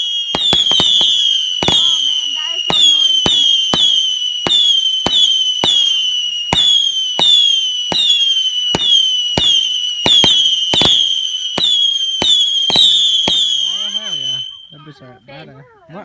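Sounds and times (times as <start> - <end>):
fireworks whistling shots: 0.0 - 15.1.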